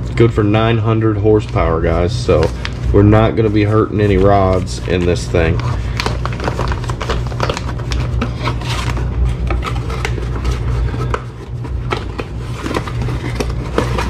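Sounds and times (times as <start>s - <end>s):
plastic wrap rustling: 0.0s - 14.0s
steady low hum: 0.0s - 14.0s.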